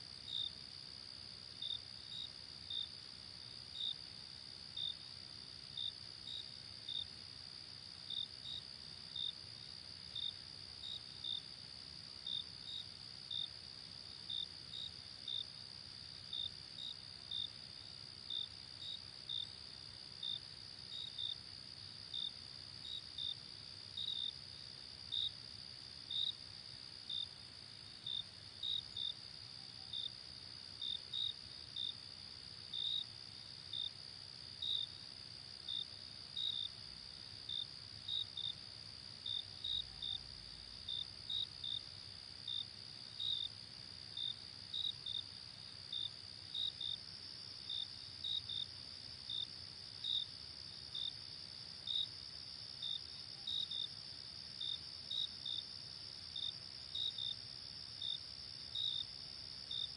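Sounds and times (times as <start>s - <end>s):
crickets chirping: 0.0s - 59.9s
faint low hiss: 0.0s - 59.9s.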